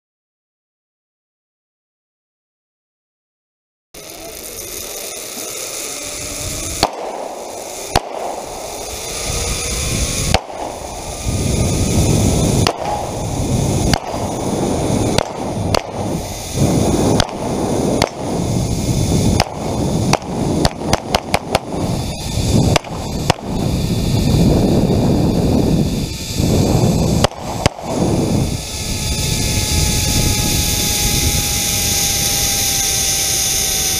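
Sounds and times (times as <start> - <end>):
rushing wind: 4.0 - 33.9
zip line trolley on cable: 4.0 - 33.9.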